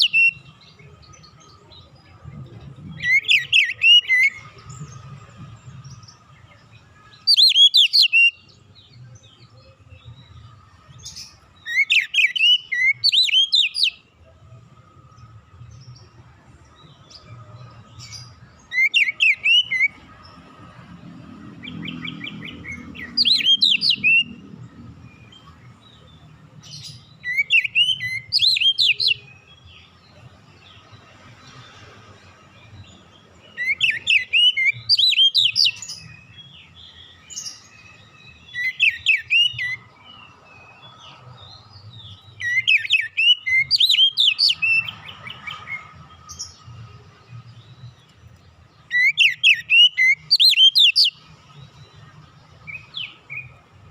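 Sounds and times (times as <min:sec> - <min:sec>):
bird singing whistled notes: 0:00.0 - 0:02.2, 0:02.8 - 0:14.1, 0:16.8 - 0:20.4, 0:21.6 - 0:30.9, 0:32.6 - 0:53.6.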